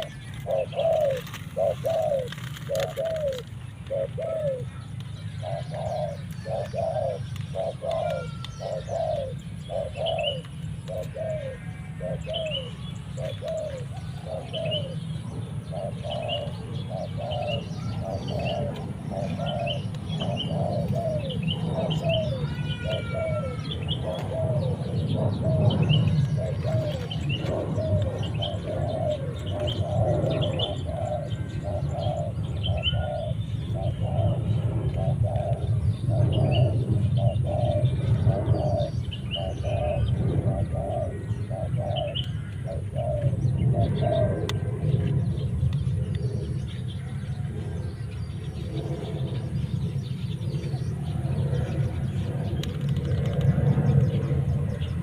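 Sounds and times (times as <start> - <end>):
dove cooing: 0.0 - 55.0
small birds chirping: 0.0 - 55.0
steady low rumble: 0.0 - 55.0.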